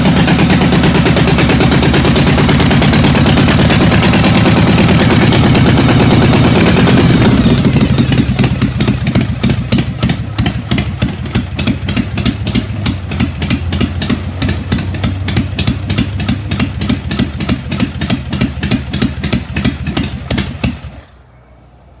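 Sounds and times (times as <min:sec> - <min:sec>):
motorcycle engine revving and idling: 0:00.0 - 0:21.2.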